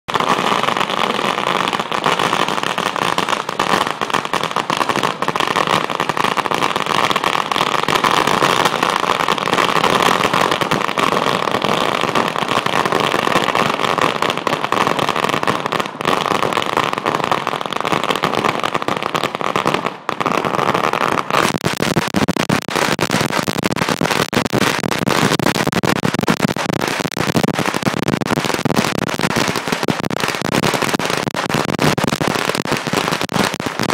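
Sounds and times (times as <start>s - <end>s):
firecrackers crackling: 0.1s - 33.9s.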